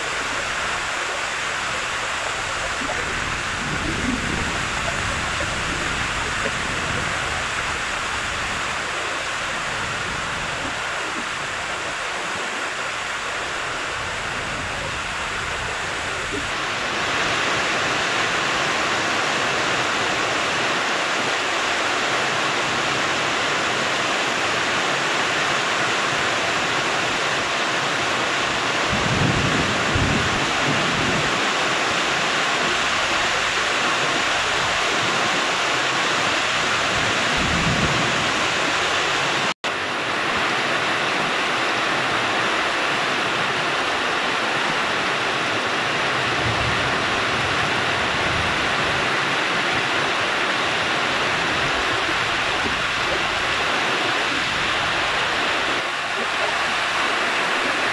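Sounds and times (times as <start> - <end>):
heavy rain pouring: 0.0 - 57.9.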